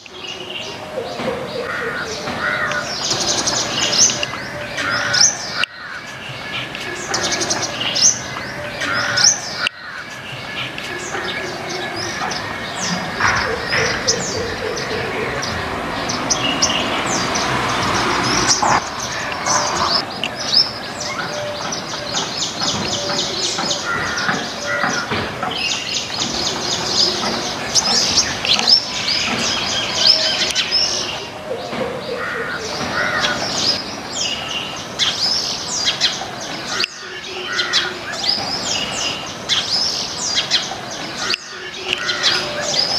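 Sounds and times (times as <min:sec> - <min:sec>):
birds chirping and twittering: 0:00.0 - 0:42.9.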